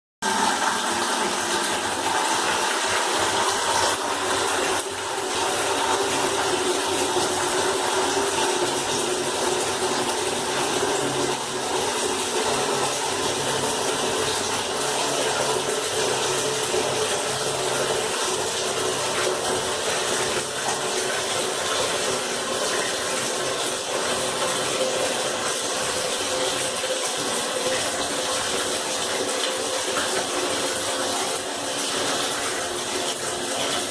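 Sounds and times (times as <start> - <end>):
water running from a tap: 0.2 - 33.9.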